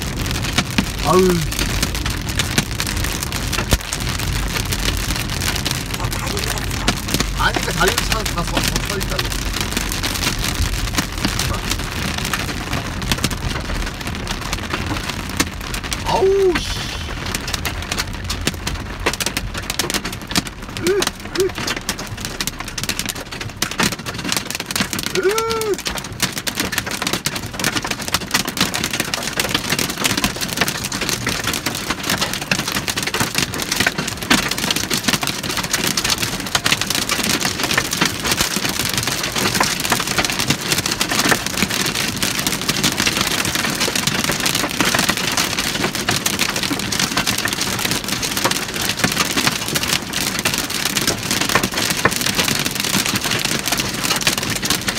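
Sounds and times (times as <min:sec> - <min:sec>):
hail clattering on car: 0:00.0 - 0:54.9.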